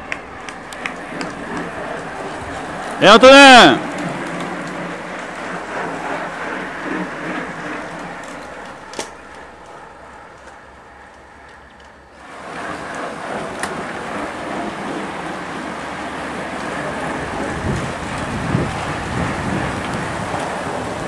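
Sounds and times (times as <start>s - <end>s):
cyclists and vehicles passing: 0.0s - 21.0s.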